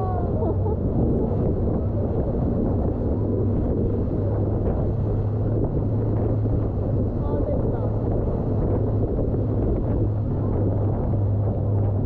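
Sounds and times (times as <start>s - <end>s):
boat motor running: 0.0s - 12.0s
rushing water: 0.0s - 12.0s
wind buffeting microphone: 0.0s - 12.0s.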